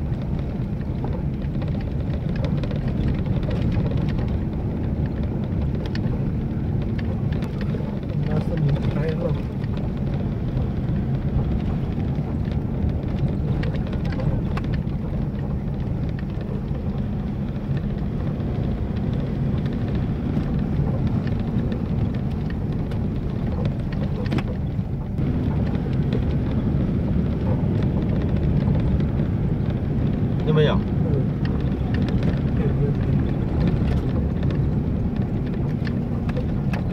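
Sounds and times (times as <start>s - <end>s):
vehicle rumbling on gravel: 0.0s - 36.9s.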